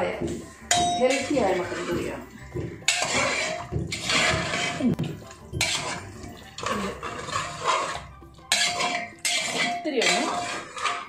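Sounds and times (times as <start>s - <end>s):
metal spoon scraping a pot: 0.0s - 11.0s.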